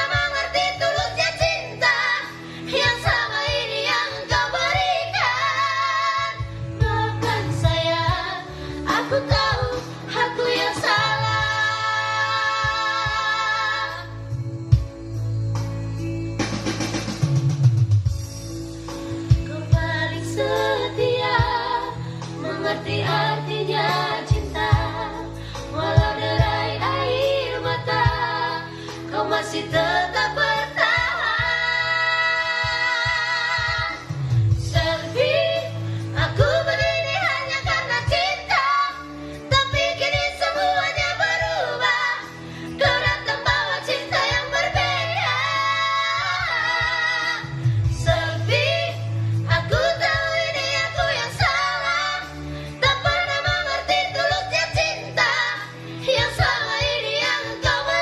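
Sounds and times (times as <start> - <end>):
person singing a ballad: 0.0 - 17.2, 18.8 - 58.0
backing music: 0.0 - 58.0.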